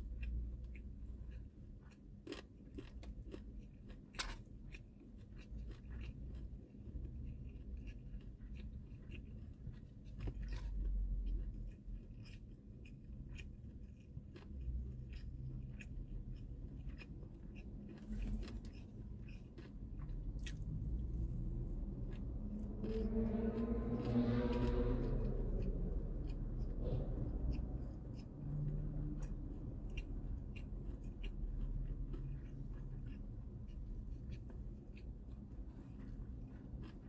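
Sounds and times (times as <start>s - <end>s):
person chewing with mouth clicks: 0.0s - 37.0s.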